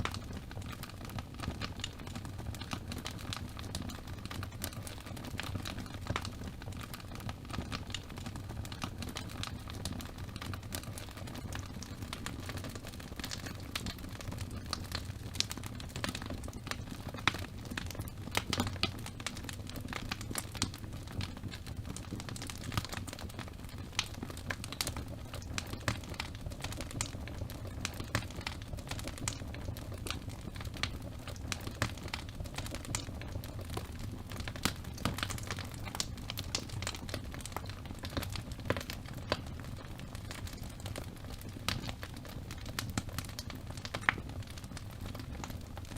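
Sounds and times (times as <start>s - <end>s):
fire flames rumbling: 0.0s - 45.9s
wood fire crackling and popping: 0.0s - 45.9s.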